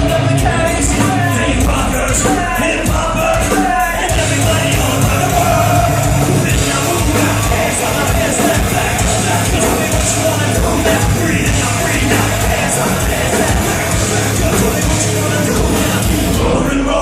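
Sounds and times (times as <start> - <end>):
pounding drums: 0.0 - 16.5
bass guitar: 0.0 - 17.0
heavy guitars: 0.0 - 17.0
yelled vocals: 0.0 - 17.0.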